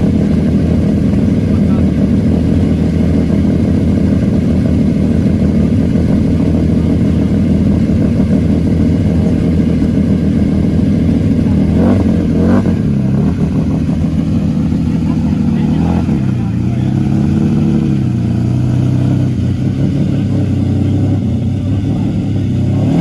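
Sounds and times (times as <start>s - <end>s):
car engine idling: 0.0s - 23.0s
engine throttle blips: 0.0s - 23.0s.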